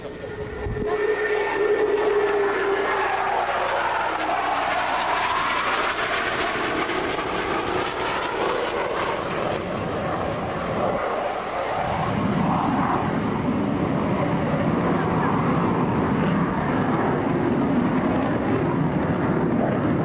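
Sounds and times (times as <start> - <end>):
fighter jets roaring overhead: 0.0 - 20.0.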